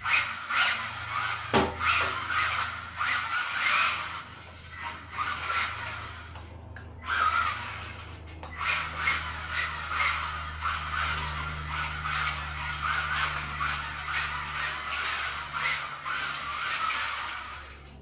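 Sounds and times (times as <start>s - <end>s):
small electric motor whining: 0.0s - 18.0s
tyres skidding on tiles: 0.1s - 18.0s.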